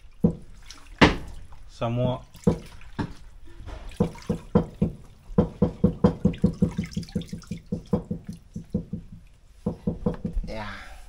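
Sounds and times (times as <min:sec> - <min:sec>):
water splashes: 0:00.0 - 0:09.5
rhythmic water sloshing: 0:00.0 - 0:10.6.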